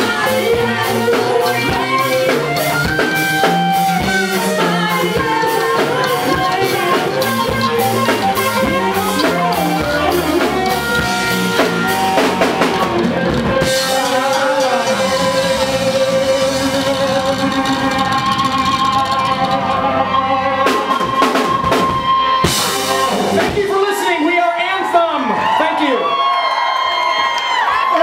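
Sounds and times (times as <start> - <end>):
person singing: 0.0 - 23.7
drum kit: 0.0 - 24.7
electric guitars and bass: 0.0 - 28.0.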